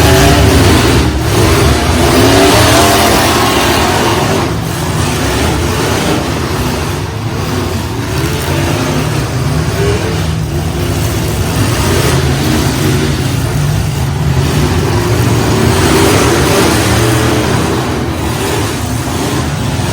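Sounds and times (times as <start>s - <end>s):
truck engines revving: 0.0s - 19.9s.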